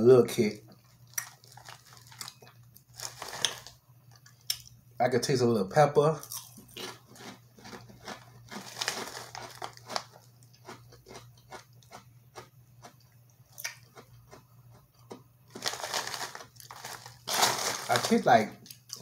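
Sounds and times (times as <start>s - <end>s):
crunchy chips chewing: 0.8s - 4.7s, 6.2s - 19.0s.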